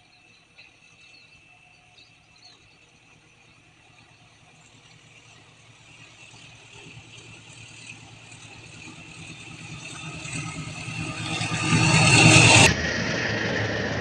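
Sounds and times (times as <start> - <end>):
diesel locomotive engine: 0.0 - 14.0
wheels on rails: 0.0 - 14.0.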